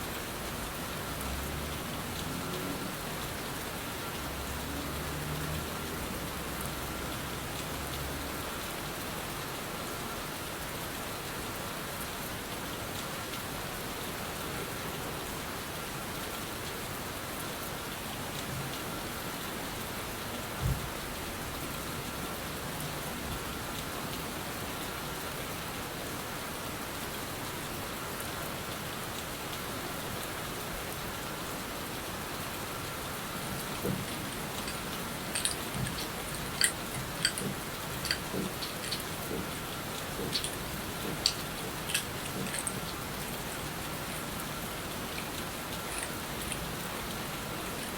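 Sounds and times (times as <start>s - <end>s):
steady rain patter: 0.0s - 47.9s.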